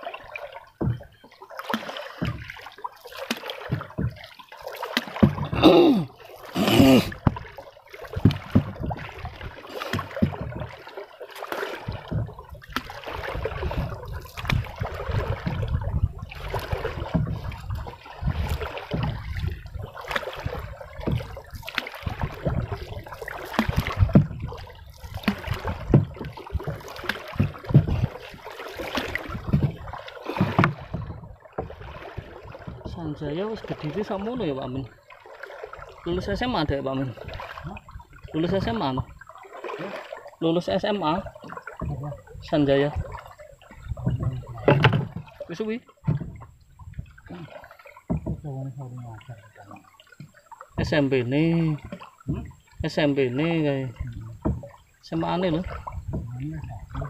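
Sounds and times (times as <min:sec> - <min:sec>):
water splashing around boat: 0:00.0 - 0:57.0.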